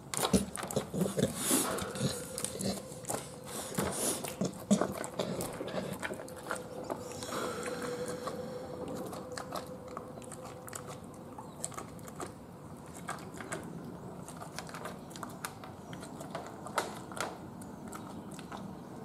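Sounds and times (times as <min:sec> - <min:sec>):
dog chewing and licking: 0:00.0 - 0:19.0.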